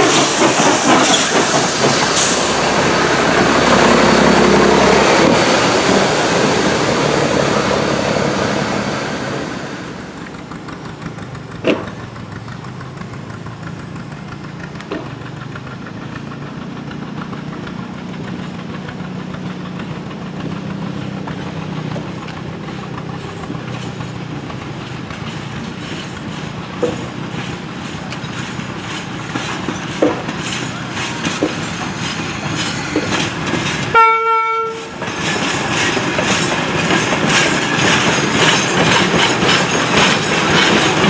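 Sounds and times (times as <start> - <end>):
steam locomotive hissing: 0.0 - 10.7, 13.0 - 41.0.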